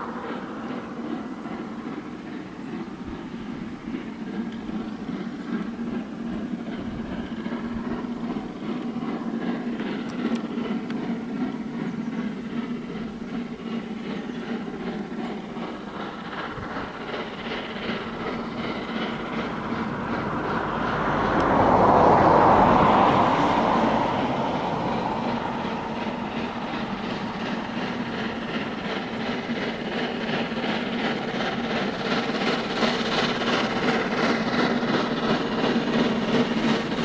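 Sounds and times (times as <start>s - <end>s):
steam train passing: 0.0s - 37.0s
wheels clicking over rail joints: 0.0s - 37.0s.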